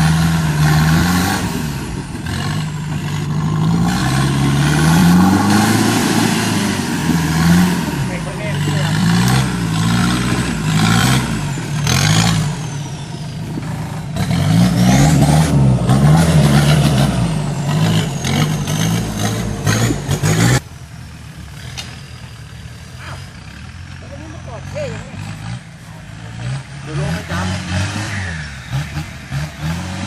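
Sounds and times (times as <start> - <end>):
off-road engine revving: 0.0 - 30.0.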